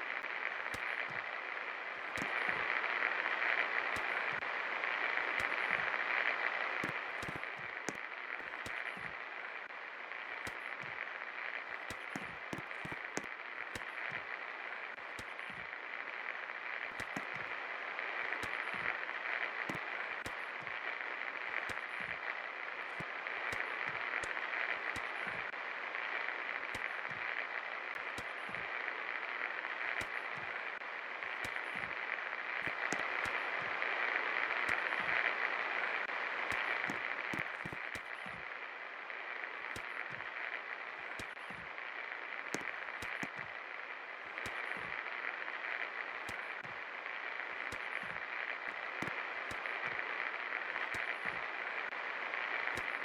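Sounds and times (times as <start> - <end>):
faint clicks: 0.0 - 53.0.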